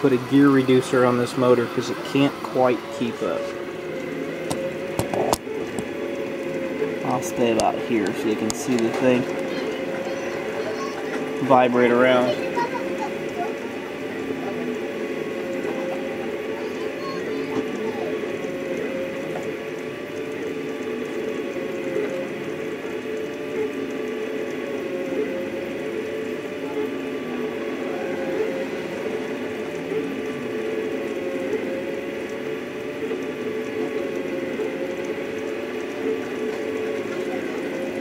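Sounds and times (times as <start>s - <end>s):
stepper motors whining: 0.0s - 38.0s.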